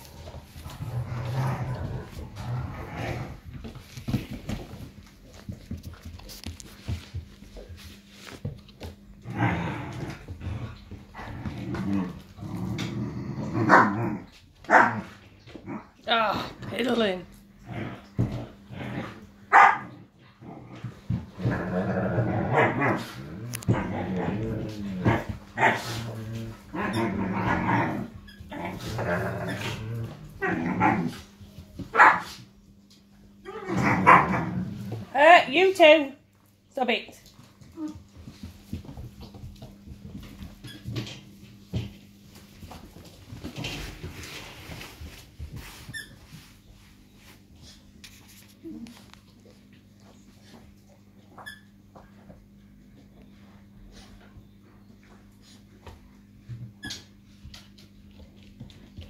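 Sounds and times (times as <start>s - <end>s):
puppies growling in play: 0.0s - 35.4s, 37.2s - 59.0s.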